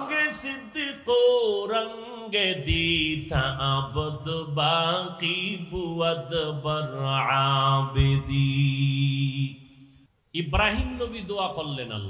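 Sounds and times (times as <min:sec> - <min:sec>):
man chanting melodically: 0:00.0 - 0:09.6, 0:10.4 - 0:12.0.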